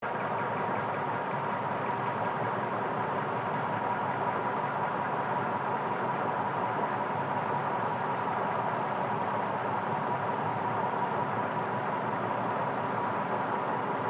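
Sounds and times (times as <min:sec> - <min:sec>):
electric fan whirring: 0:00.1 - 0:14.0.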